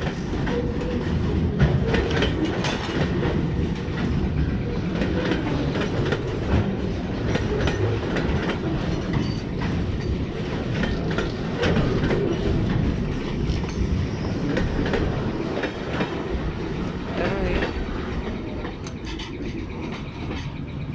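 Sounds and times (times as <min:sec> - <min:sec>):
freight train wheels rumbling: 0:00.0 - 0:20.9
wheels clacking over rail joints: 0:00.0 - 0:20.9.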